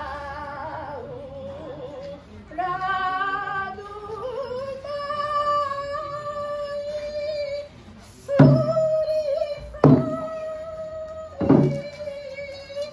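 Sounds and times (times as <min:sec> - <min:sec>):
woman singing unaccompanied: 0:00.0 - 0:07.7, 0:08.3 - 0:12.9.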